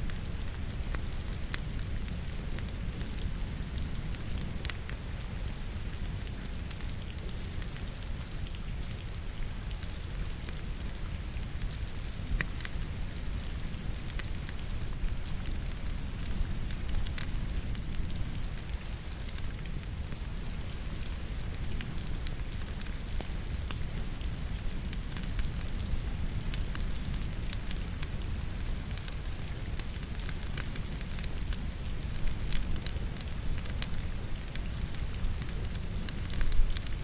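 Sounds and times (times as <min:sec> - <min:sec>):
falling rain: 0:00.0 - 0:37.0
firewood crackling and popping: 0:00.0 - 0:37.0.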